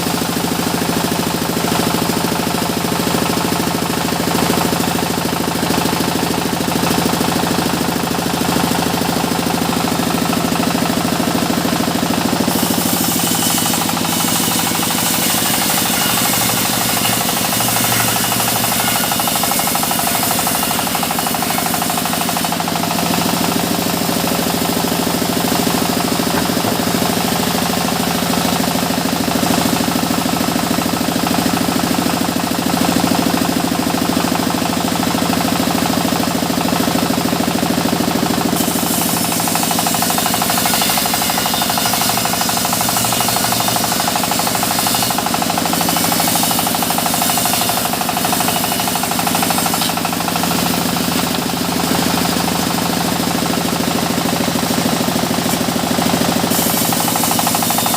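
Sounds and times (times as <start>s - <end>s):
engine knocking pulse: 0.0s - 57.9s
sawmill saw running: 0.0s - 57.9s.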